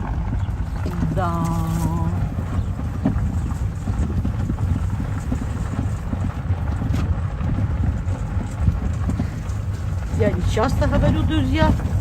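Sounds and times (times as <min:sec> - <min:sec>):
vehicle running: 0:00.0 - 0:12.0
wind buffeting microphone: 0:00.0 - 0:12.0.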